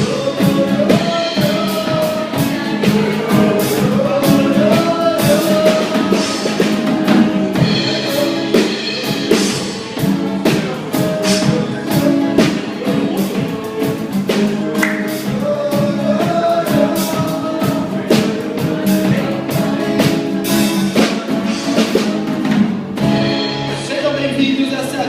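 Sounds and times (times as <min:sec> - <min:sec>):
person singing: 0:00.0 - 0:22.2
band playing upbeat song: 0:00.0 - 0:25.0
drum kit beat: 0:00.0 - 0:25.0.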